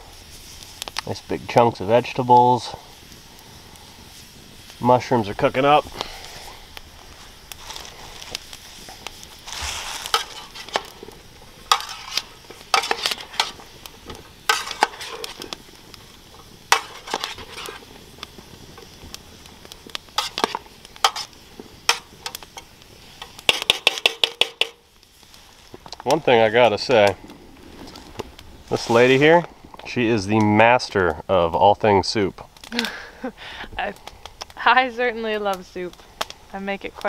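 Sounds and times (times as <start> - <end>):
vegetables sizzling: 0.0 - 37.0.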